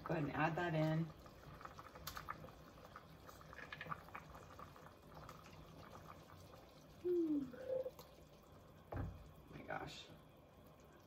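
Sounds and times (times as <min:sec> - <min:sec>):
soup simmering: 0:00.0 - 0:11.0.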